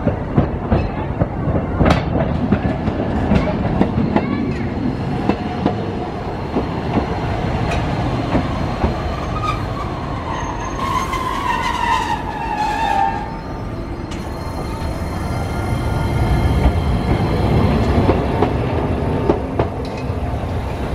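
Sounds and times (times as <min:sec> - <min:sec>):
tram clicking over rail joints: 0:00.0 - 0:20.9
tram whine: 0:00.0 - 0:20.9.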